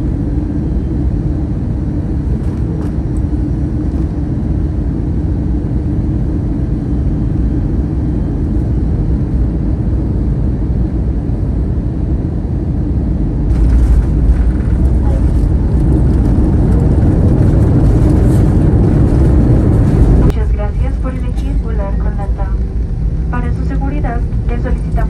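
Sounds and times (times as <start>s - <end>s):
airplane cabin engine rumble: 0.0s - 25.0s
constant low hum: 0.0s - 25.0s.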